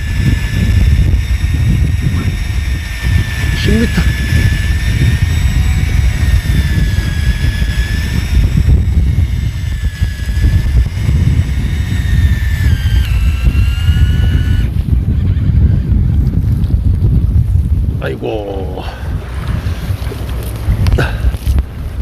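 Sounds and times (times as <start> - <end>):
high mechanical whine: 0.0 - 22.0
wind buffeting microphone: 0.0 - 22.0.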